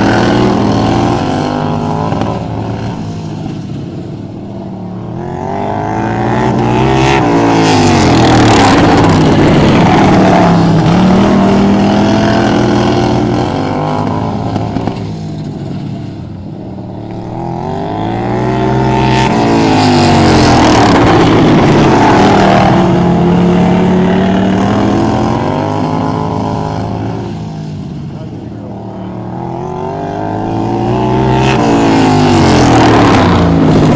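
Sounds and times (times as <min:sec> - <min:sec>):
racing lawnmower engine revving: 0:00.0 - 0:33.9.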